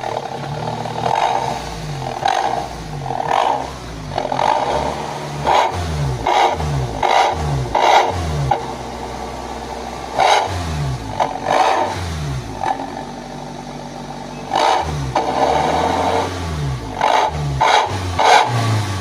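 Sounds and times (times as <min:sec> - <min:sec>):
van engine revving: 0:00.0 - 0:19.0.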